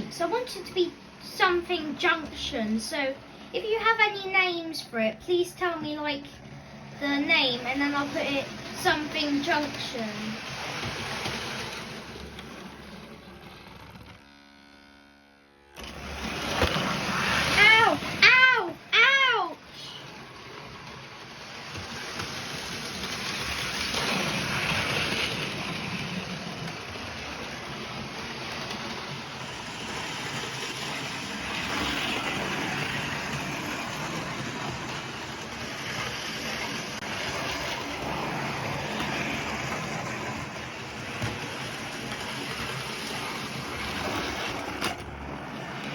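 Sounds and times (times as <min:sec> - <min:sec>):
model train running on track: 0:00.0 - 0:45.9.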